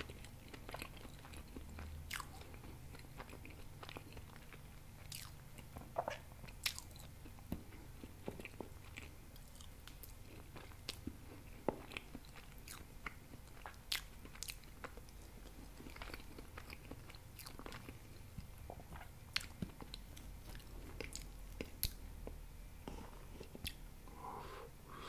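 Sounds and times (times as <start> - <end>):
chewing and biting: 0.0 - 22.0.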